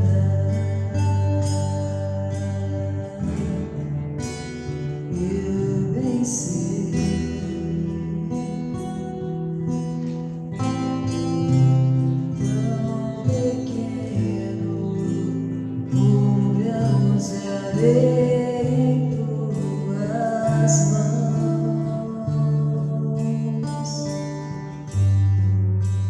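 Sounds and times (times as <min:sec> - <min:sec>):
person singing: 0:00.0 - 0:24.9
acoustic guitar: 0:00.0 - 0:26.0.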